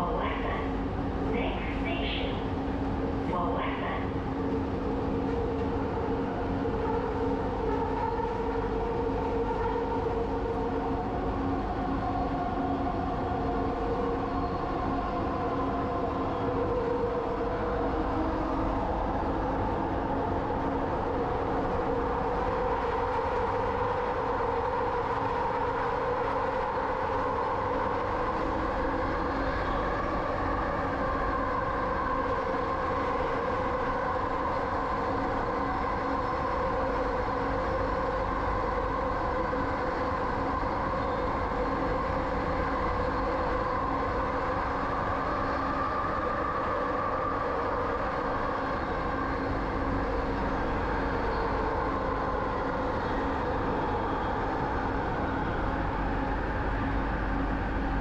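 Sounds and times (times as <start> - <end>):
train rumble from inside: 0.0 - 58.0.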